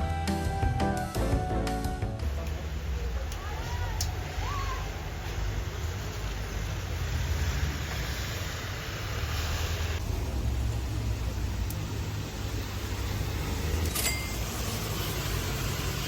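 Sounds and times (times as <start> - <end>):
low traffic rumble: 0.0 - 16.0
traffic hiss: 2.2 - 16.0.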